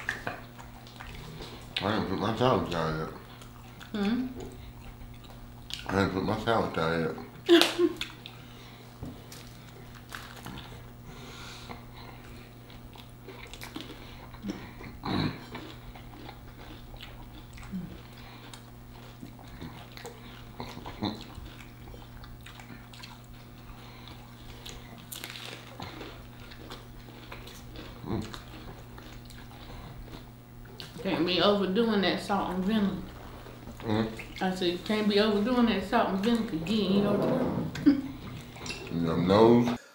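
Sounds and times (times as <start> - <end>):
person chewing crunchy food: 0.0 - 31.4, 32.2 - 39.2
steady low hum: 0.0 - 39.9.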